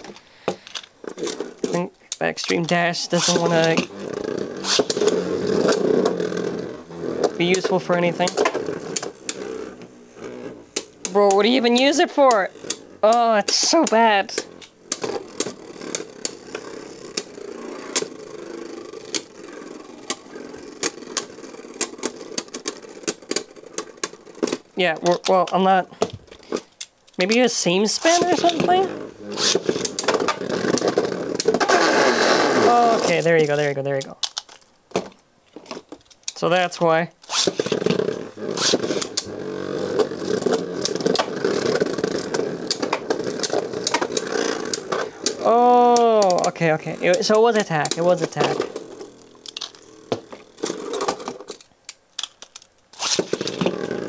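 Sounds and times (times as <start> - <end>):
spinning tops whirring: 0.9 - 25.8, 27.2 - 33.8, 36.4 - 51.7, 52.3 - 54.0.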